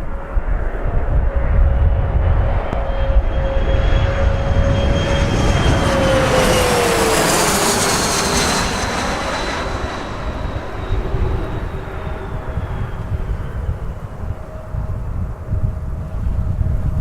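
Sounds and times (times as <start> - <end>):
jet engines whining: 0.0 - 16.3
heavy low rumble: 0.0 - 17.0.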